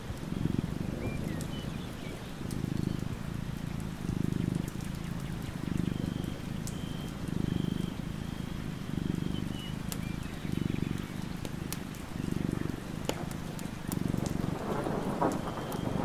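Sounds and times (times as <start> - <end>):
cat purring: 0.2 - 16.0.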